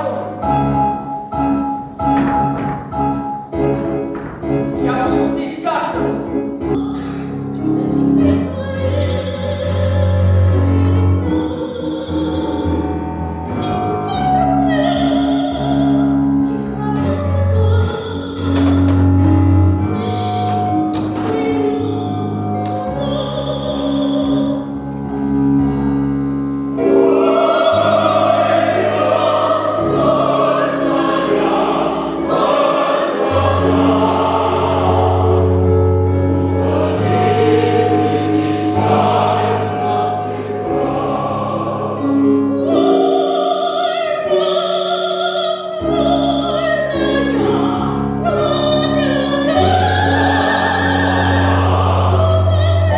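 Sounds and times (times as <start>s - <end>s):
operatic singing voices: 0.0s - 1.1s, 4.4s - 24.7s, 26.8s - 52.9s.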